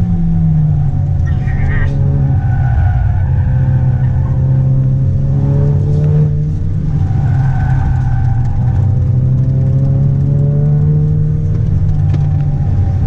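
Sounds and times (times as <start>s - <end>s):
car engine drone from inside: 0.0s - 13.0s.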